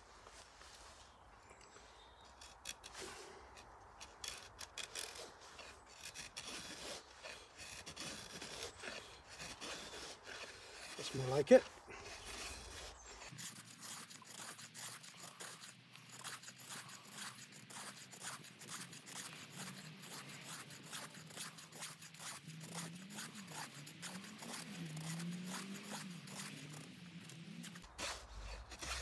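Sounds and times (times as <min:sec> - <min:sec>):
knife scraping wood: 0:00.2 - 0:29.0.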